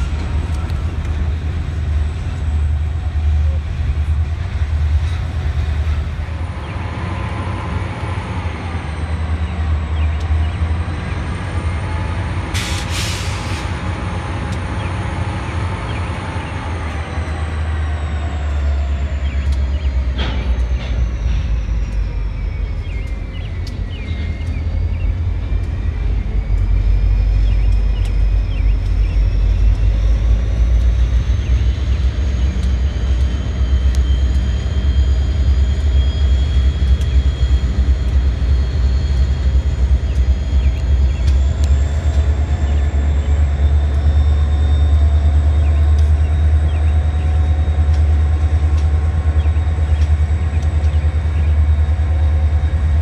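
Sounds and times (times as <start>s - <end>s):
freight train rumbling: 0.0s - 53.0s.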